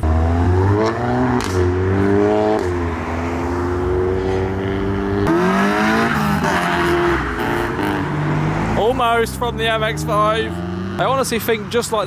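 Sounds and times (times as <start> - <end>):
car engine accelerating: 0.0 - 11.7.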